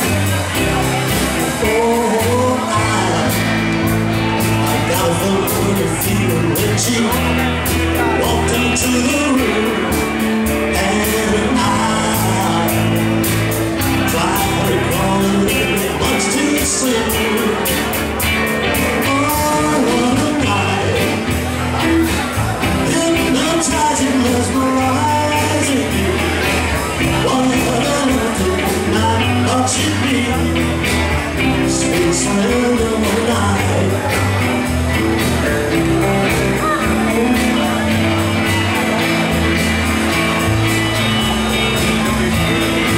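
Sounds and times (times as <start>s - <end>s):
drum kit beat: 0.0s - 42.9s
electric bass: 0.0s - 42.9s
electric guitars: 0.0s - 42.9s
man singing: 0.0s - 42.9s.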